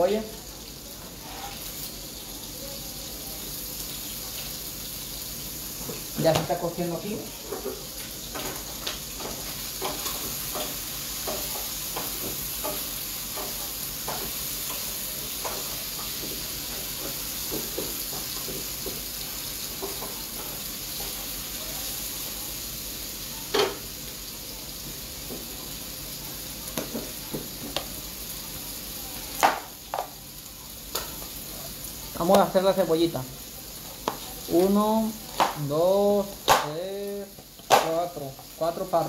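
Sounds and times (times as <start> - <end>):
liver sizzling in a frying pan: 0.0 - 39.0.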